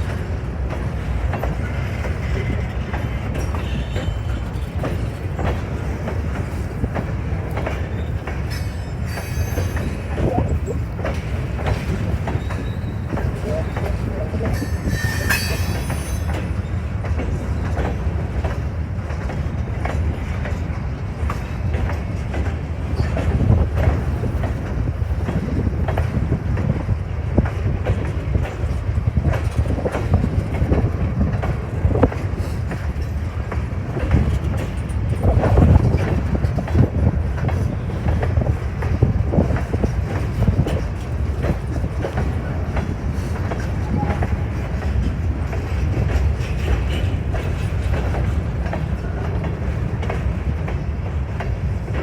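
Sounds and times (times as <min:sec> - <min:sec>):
freight train rolling past: 0:00.0 - 0:52.0
steel wheels clicking over rail joints: 0:00.0 - 0:52.0.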